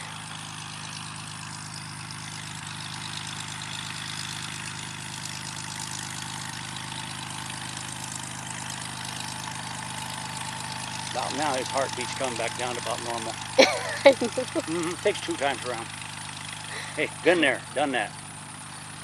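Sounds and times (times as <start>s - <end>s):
piston engine droning: 0.0s - 19.0s.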